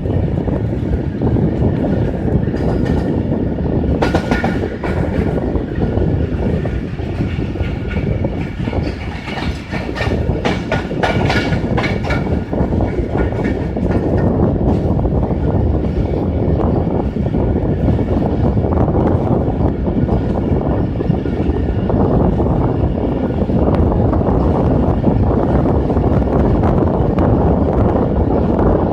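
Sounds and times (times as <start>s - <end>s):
train wheels clattering: 0.1s - 28.9s.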